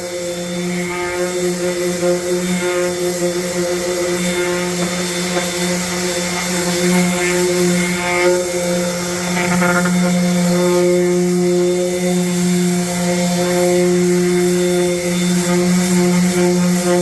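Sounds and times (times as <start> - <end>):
palm sander humming: 0.0 - 17.0.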